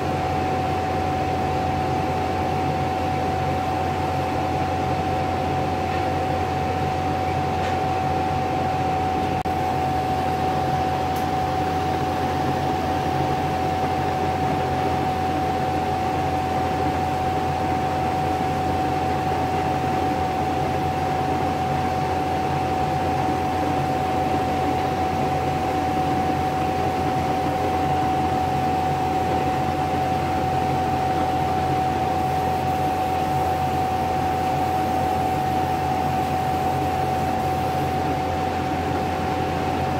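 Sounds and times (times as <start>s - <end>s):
constant whine: 0.0s - 39.9s
machine running with fan rush: 0.0s - 39.9s.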